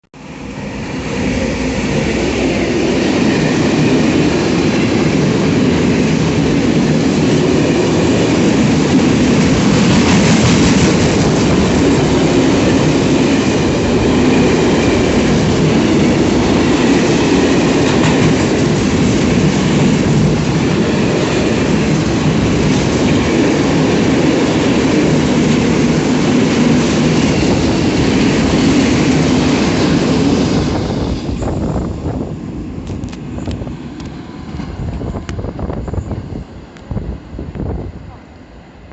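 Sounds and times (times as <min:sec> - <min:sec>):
freight train rolling on rails: 0:00.2 - 0:38.9.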